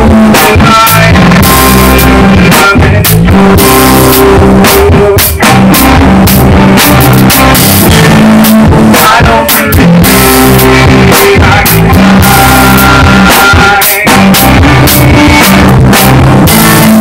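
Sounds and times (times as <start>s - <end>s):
drum and cymbal strikes: 0.0s - 17.0s
rock band playing: 0.0s - 17.0s
sustained guitar chords: 0.0s - 17.0s.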